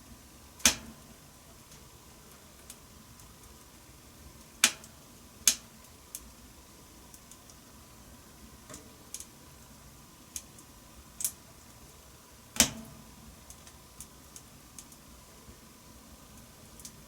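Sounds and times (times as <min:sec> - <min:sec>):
faint steady hiss: 0:00.0 - 0:17.0
wood fire crackling: 0:00.0 - 0:17.0.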